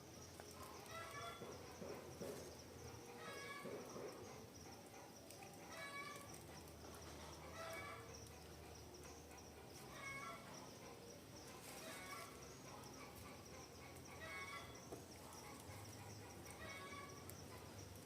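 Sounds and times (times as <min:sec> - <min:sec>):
high twittering of birds: 0:00.0 - 0:18.0.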